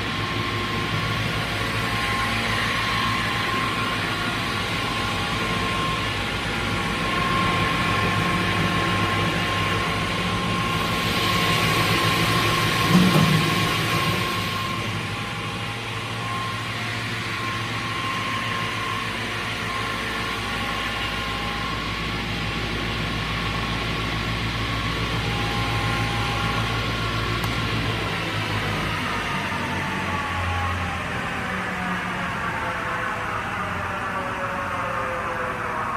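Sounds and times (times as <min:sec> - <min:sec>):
saw running with steady whine: 0:00.0 - 0:35.9.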